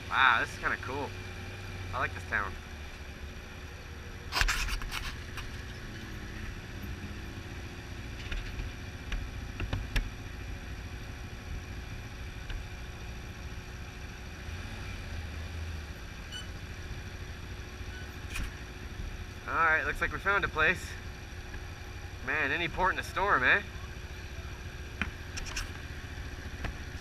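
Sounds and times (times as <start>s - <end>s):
vehicle rumbling slowly: 0.0s - 27.0s.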